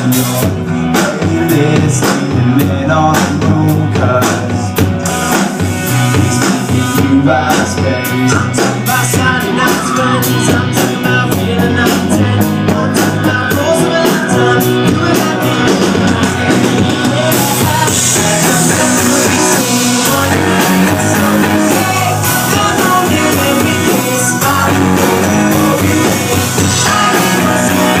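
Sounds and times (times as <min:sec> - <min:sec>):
pop-rock band playing live: 0:00.0 - 0:28.0.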